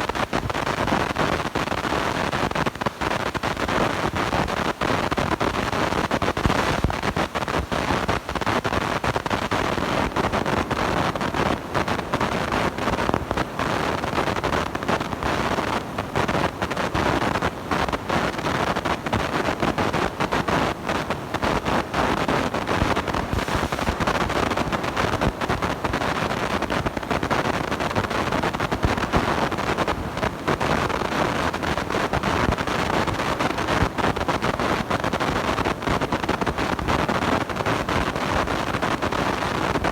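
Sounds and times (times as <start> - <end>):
distorting microphone crackling: 0.0 - 39.9.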